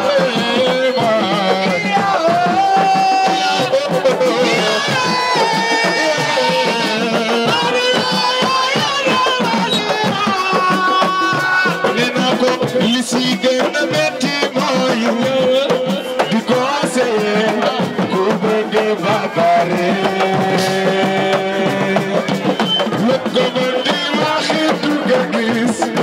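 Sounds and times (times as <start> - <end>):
fast drumming: 0.0 - 26.0.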